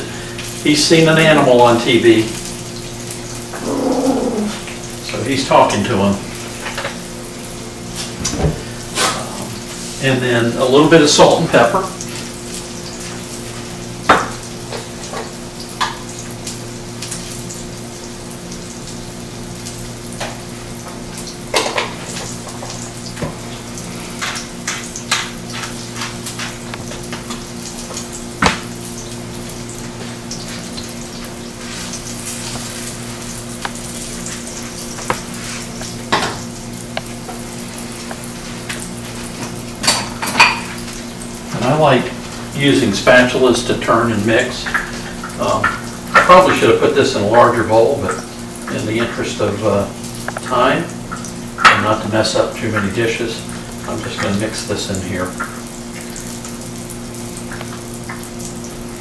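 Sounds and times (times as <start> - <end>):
meat sizzling in a pan: 0.0 - 59.0.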